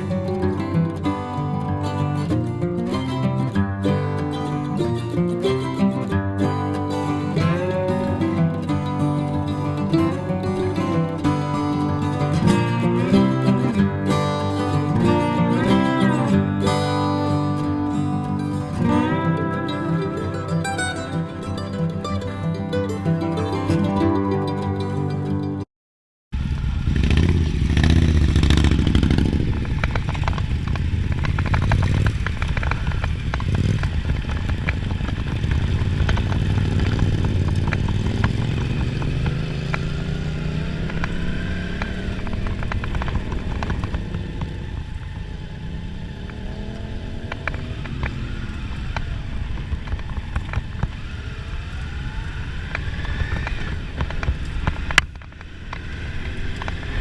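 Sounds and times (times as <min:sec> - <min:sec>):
motorcycles riding on road: 0:00.0 - 0:22.7, 0:26.4 - 0:57.0.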